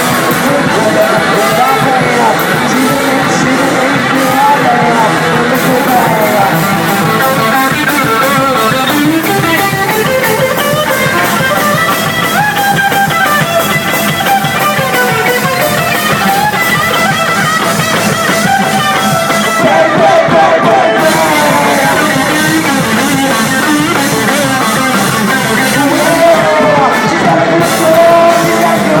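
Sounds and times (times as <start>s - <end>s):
electric guitar solo: 0.0s - 29.0s
live rock band: 0.0s - 29.0s.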